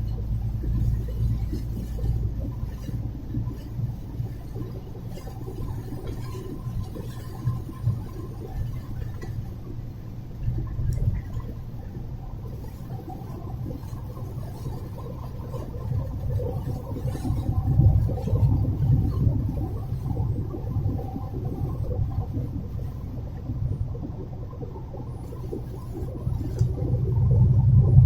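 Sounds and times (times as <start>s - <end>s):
low uneven rumbling: 0.0s - 28.0s.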